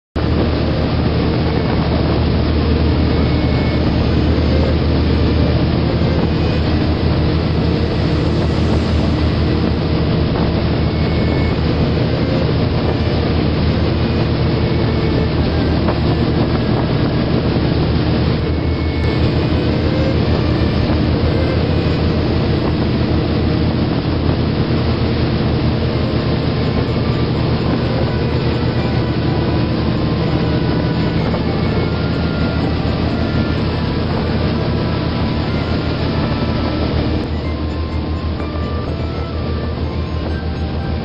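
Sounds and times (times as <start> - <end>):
deep rumble with dense hiss: 0.2 - 41.0.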